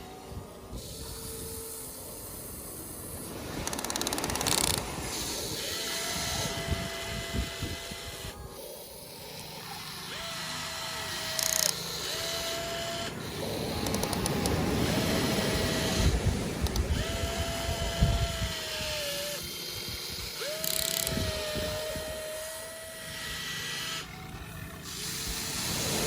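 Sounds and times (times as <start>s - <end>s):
small electric motors whining: 0.0s - 26.0s
wind buffeting microphone: 0.2s - 8.6s, 12.1s - 23.5s, 24.3s - 26.0s.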